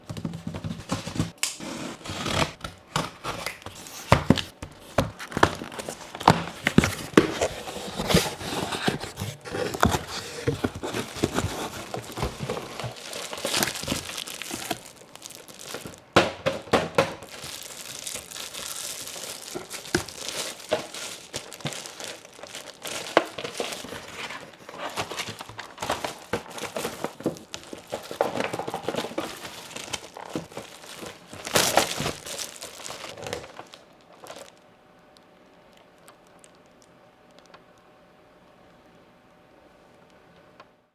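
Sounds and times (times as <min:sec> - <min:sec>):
wrapping crinkling: 0:00.0 - 0:37.5
packaging tearing: 0:00.2 - 0:34.6.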